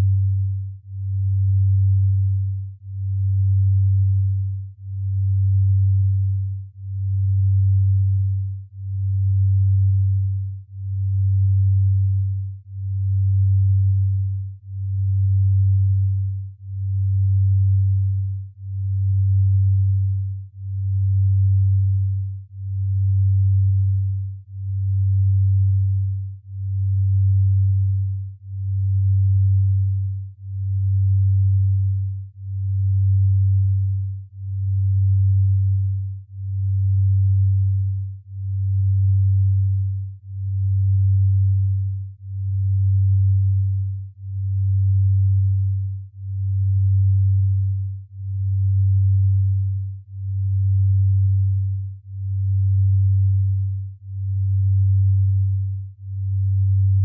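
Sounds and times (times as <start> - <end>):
low pulsing pure tone: 0.0 - 57.0.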